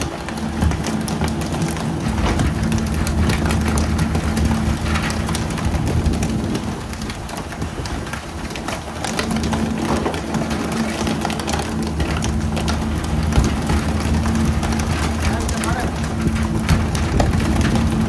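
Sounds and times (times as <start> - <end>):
boat engine running: 0.0 - 18.0
water splashing: 0.0 - 18.0.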